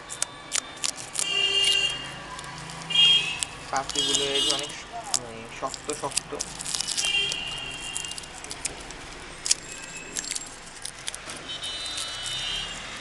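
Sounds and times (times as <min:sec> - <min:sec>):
dry petals crackling: 0:00.0 - 0:13.0.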